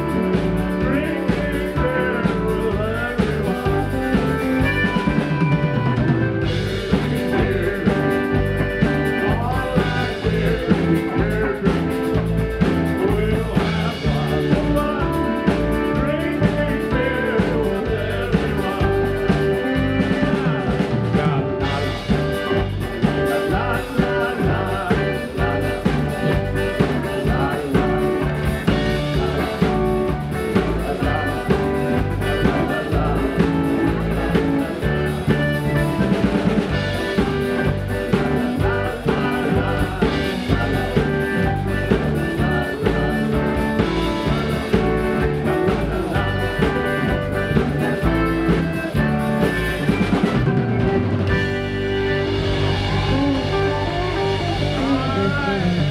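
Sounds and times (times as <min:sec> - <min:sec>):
man singing: 0:00.0 - 0:50.2, 0:53.1 - 0:55.9
accordion: 0:00.0 - 0:55.9
polka band playing: 0:00.0 - 0:55.9.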